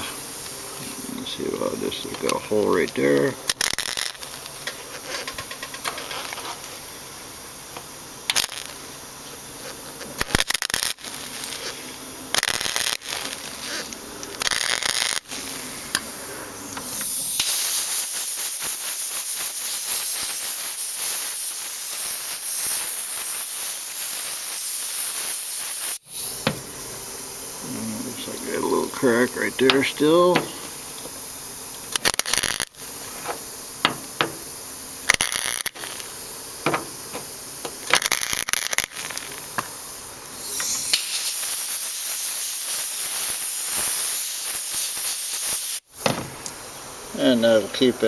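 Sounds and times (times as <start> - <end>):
compressed air hissing: 0.0 - 48.0
welding bursts: 0.0 - 48.0.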